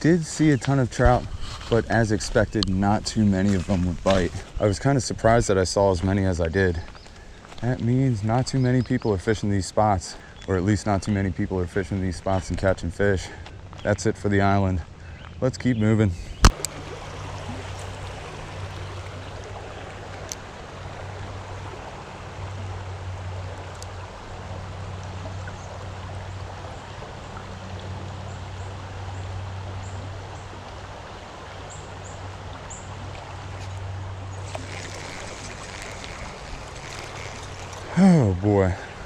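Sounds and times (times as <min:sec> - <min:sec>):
creek water over rocks: 0:00.0 - 0:39.0.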